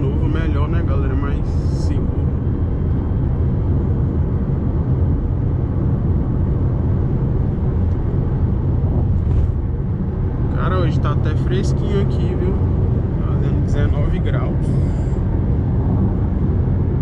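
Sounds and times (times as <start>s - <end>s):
in-cabin road and engine rumble: 0.0s - 17.0s.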